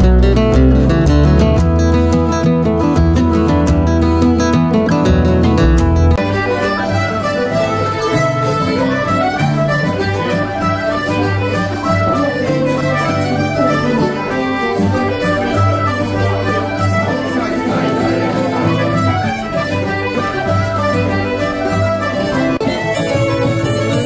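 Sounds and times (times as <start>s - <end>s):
concertina: 0.0s - 24.0s
fiddle: 0.0s - 24.0s
mandolin: 0.0s - 24.0s
strummed acoustic guitar: 0.0s - 24.0s.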